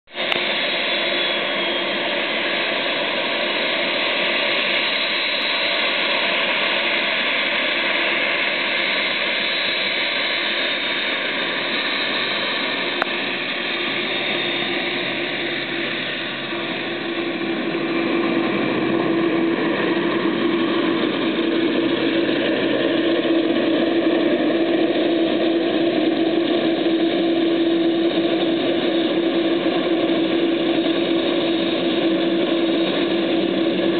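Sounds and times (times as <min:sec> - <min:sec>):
jet engines taxiing: 0:00.1 - 0:33.9.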